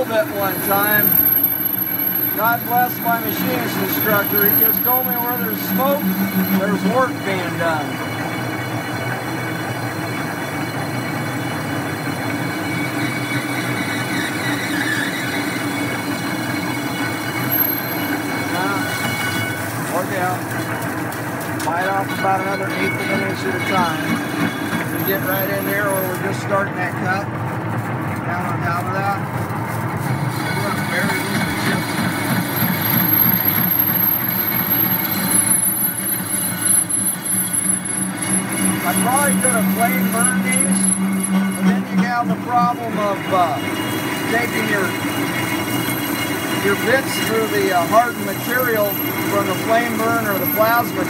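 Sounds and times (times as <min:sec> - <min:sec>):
high tones: 0:00.0 - 0:20.6, 0:21.6 - 0:26.4, 0:30.5 - 0:51.0
metal lathe cutting: 0:00.0 - 0:28.2, 0:28.8 - 0:51.0.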